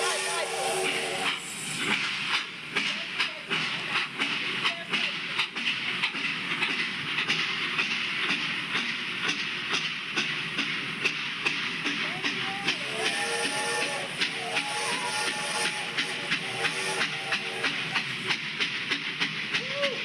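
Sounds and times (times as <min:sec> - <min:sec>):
steam hiss: 0:00.0 - 0:20.0
train wheels clacking: 0:00.0 - 0:20.0.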